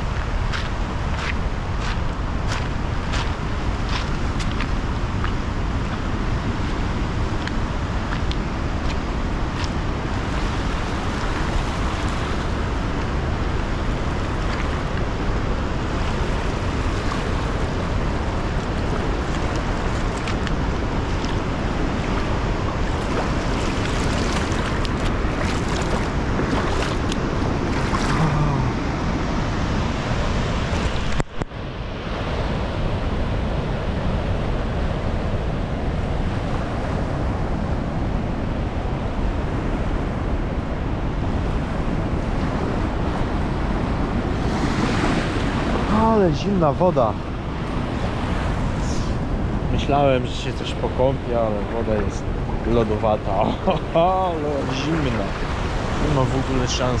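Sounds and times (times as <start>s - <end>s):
waterfall and rapids roaring: 0.0s - 57.0s.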